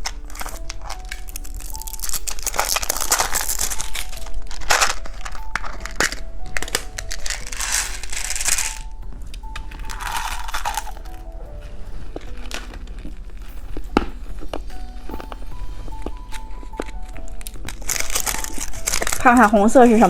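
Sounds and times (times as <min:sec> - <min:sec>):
candy wrapper crinkling: 0:00.0 - 0:20.0
soft background music: 0:00.0 - 0:20.0.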